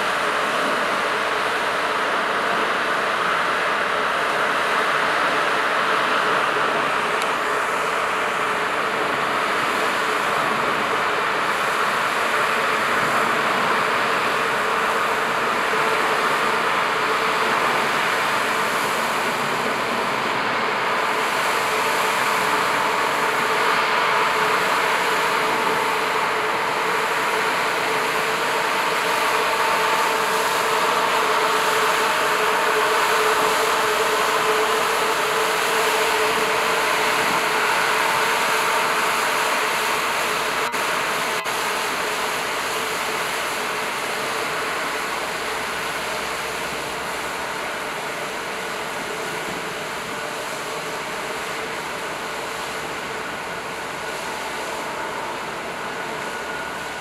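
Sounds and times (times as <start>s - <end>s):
ferry engines humming: 0.0s - 57.0s
rushing water: 0.0s - 57.0s.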